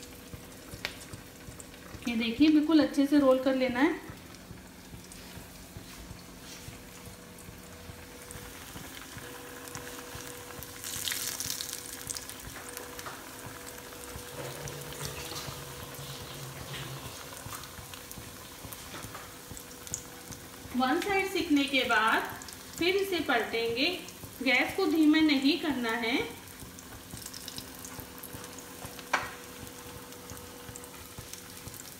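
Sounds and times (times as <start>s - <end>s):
food frying in hot oil: 0.0s - 31.9s.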